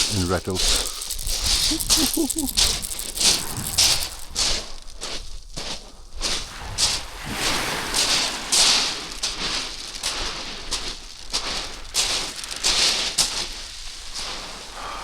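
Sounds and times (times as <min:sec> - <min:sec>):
footsteps on pebbles: 0:00.0 - 0:14.6.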